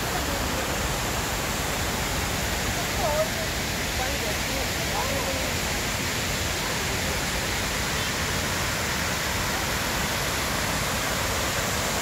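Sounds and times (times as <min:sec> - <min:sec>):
water cascading down walls: 0:00.0 - 0:12.0.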